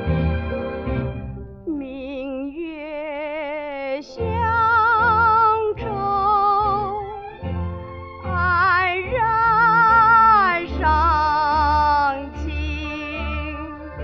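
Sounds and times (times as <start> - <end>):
song accompaniment: 0.0 - 14.0
woman singing with vibrato: 1.7 - 7.3, 8.2 - 14.0.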